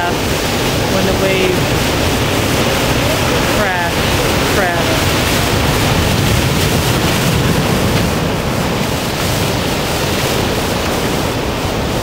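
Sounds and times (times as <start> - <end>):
ocean waves crashing: 0.0 - 12.0.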